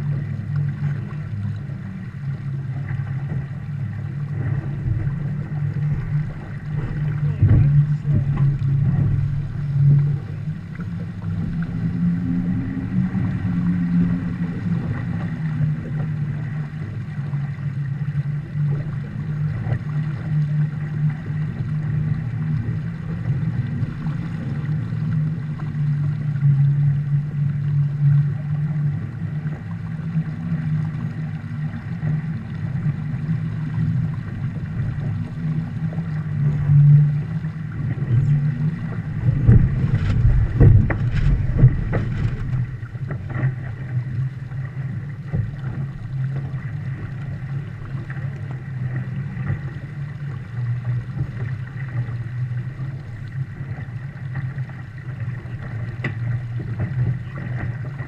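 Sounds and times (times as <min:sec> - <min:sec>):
water rushing along hull: 0:00.0 - 0:58.0
wind over microphone: 0:00.0 - 0:58.0.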